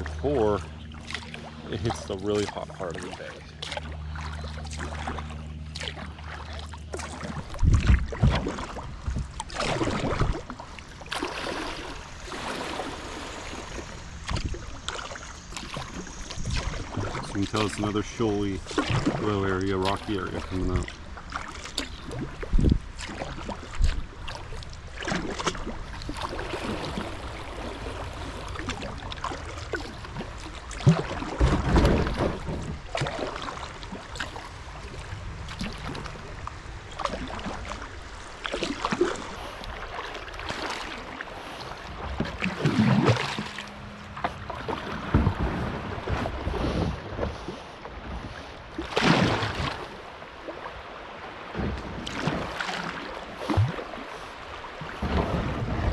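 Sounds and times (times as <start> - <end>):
paddle strokes splashing: 0.0 - 55.9
rushing water: 0.0 - 55.9.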